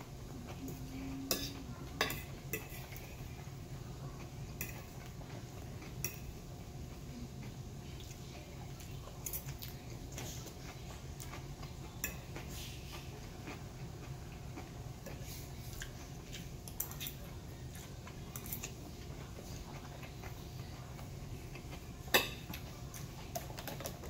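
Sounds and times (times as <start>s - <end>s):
chewing: 4.2s - 24.0s.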